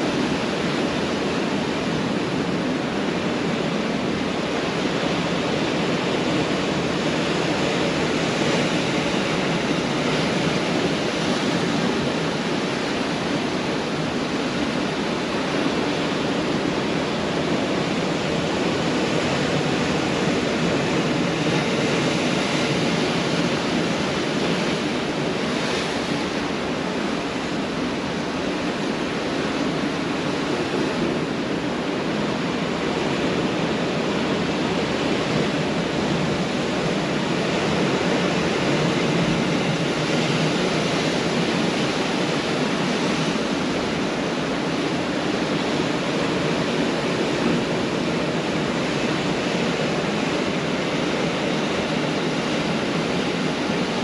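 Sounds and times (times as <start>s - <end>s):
ocean surf on a beach: 0.0s - 54.0s.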